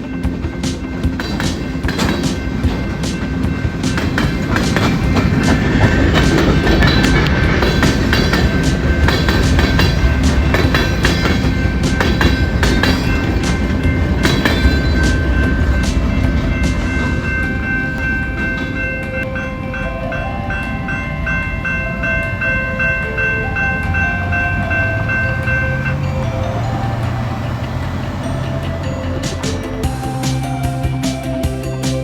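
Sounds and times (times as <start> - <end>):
train wheels clattering: 0.0 - 19.3, 21.6 - 32.0
steady high tone: 0.0 - 32.0.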